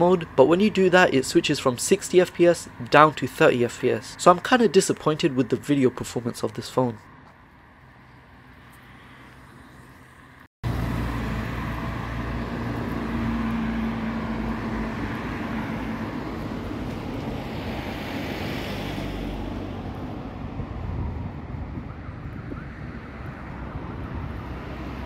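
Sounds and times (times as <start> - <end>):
cars passing close by: 0.0 - 25.0.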